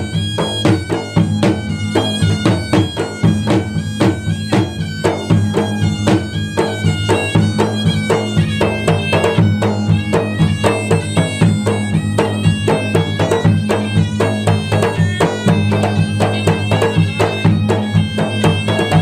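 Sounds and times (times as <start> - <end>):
hand-beaten barrel drums: 0.0 - 19.0
wind instrument melody: 0.0 - 19.0.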